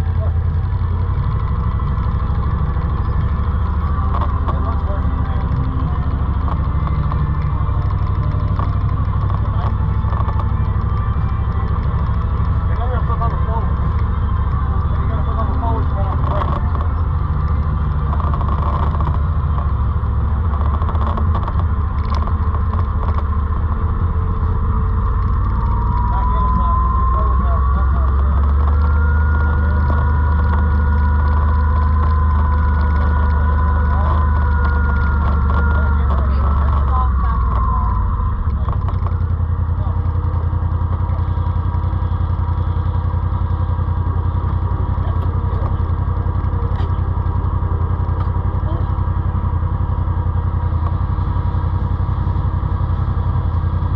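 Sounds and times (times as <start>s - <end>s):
atv engine low rumble: 0.0s - 53.9s.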